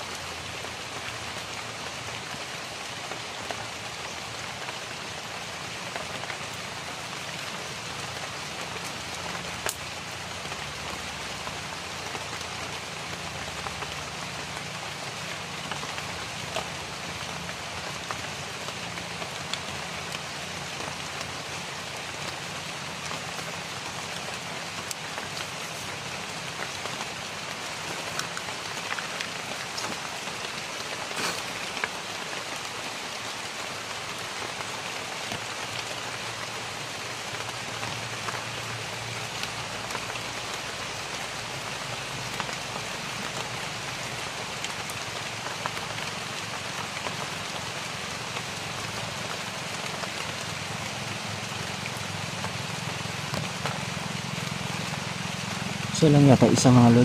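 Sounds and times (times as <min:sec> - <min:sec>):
rain falling: 0:00.0 - 0:57.0
raindrop ticks: 0:05.9 - 0:32.7, 0:33.8 - 0:57.0.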